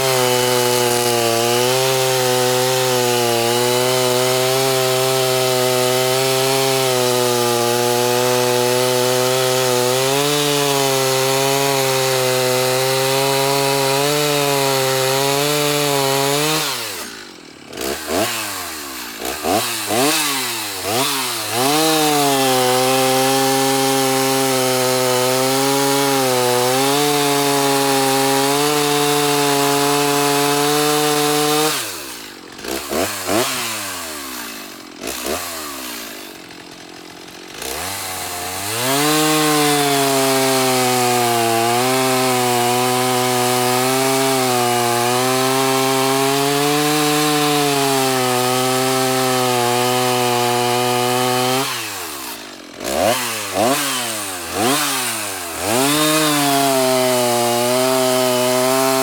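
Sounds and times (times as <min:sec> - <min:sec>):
chainsaw cutting wood: 0:00.0 - 0:59.0
chainsaw throttle blips: 0:00.0 - 0:59.0.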